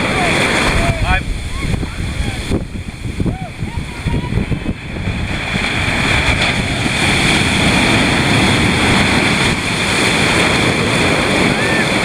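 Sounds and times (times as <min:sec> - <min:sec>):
storm surf breaking: 0:00.0 - 0:12.0
wind buffeting microphone: 0:00.0 - 0:12.0.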